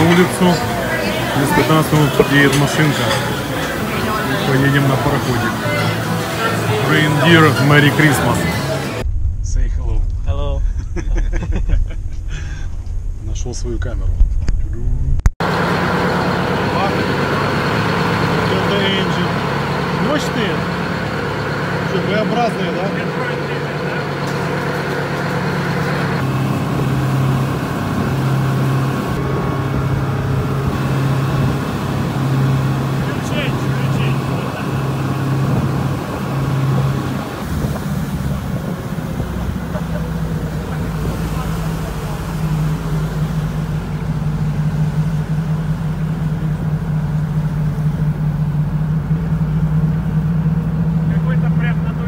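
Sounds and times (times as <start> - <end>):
road running noise: 0.0 - 9.5, 12.8 - 52.0
vehicle engine humming: 0.0 - 52.0.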